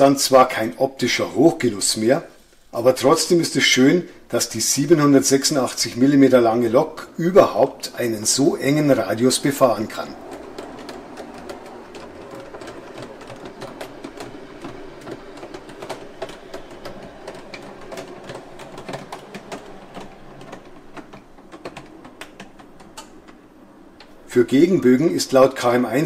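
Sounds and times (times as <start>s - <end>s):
model locomotive drive whirring: 0.0s - 26.0s
wheels clicking on rails: 0.0s - 26.0s.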